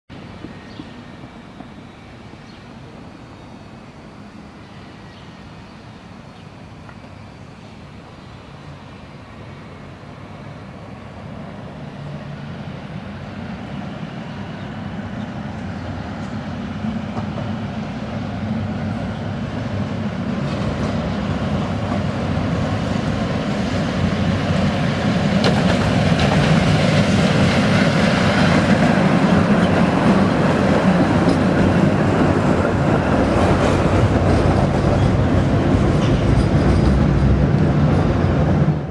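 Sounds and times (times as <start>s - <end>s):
quiet street background: 0.1s - 38.9s
tram running noise: 0.1s - 38.9s.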